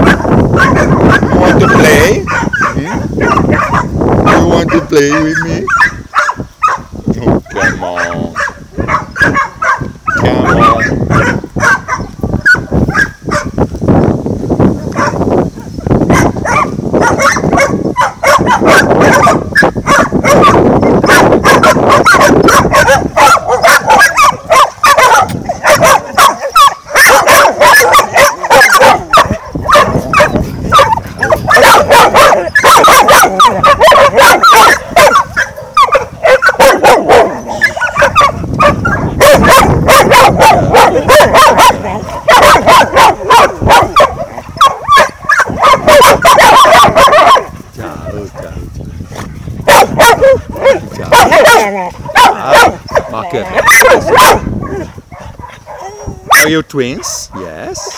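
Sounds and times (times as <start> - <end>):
small dogs barking: 0.0 - 13.6, 14.8 - 48.7, 49.3 - 57.9.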